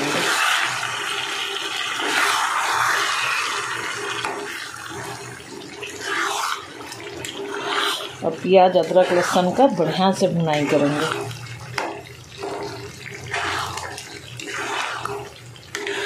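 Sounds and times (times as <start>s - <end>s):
food sizzling in hot oil: 0.0s - 16.0s
metal spatula stirring: 0.0s - 16.0s.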